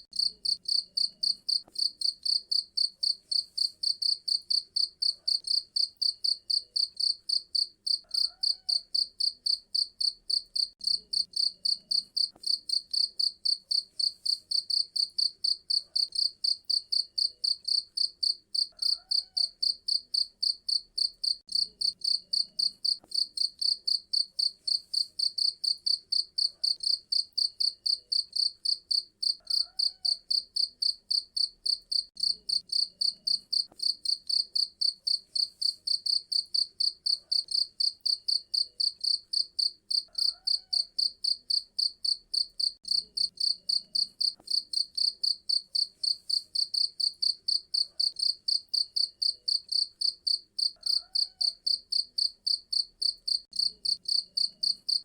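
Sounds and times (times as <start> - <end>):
cricket chirping: 0.2 - 55.0.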